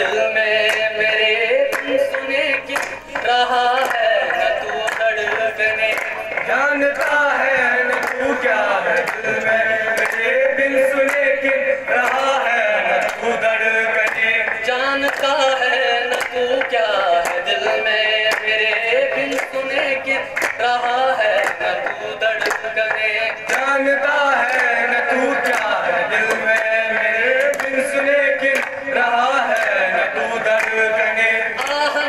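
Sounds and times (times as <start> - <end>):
men singing with chorus: 0.0 - 32.0
rhythmic hand clapping: 0.0 - 32.0.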